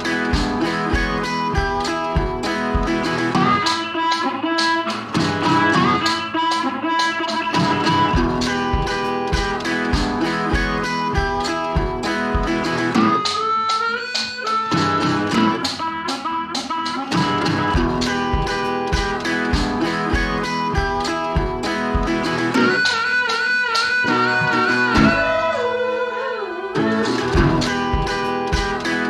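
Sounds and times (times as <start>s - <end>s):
blues band with guitar: 0.0s - 29.0s.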